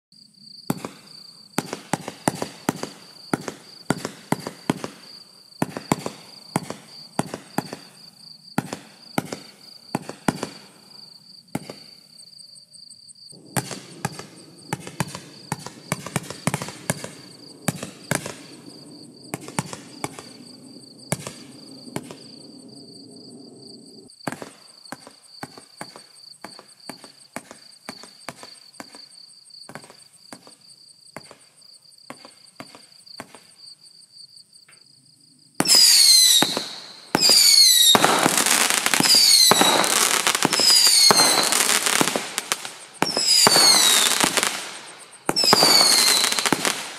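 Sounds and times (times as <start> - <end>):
fireworks bangs: 0.7 - 11.9, 13.4 - 29.1, 29.7 - 33.6, 35.6 - 46.9.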